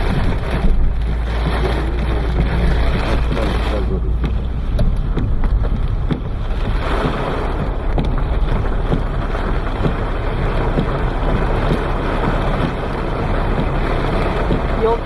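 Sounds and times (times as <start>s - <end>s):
torrential rain: 0.0s - 15.0s.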